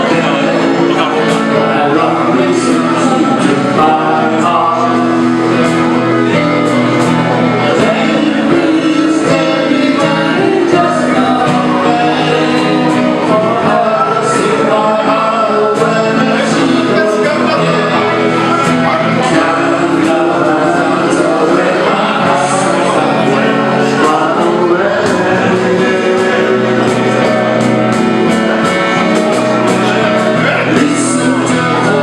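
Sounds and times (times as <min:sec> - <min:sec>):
band playing pop song: 0:00.0 - 0:32.0
man singing: 0:00.0 - 0:32.0.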